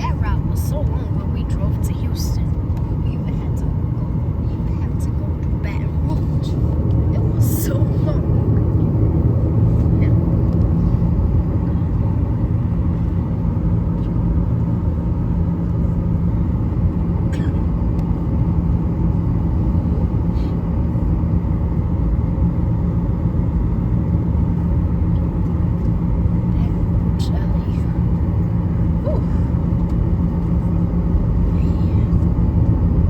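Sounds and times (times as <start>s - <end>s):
airliner cabin rumble and hum: 0.0s - 33.0s.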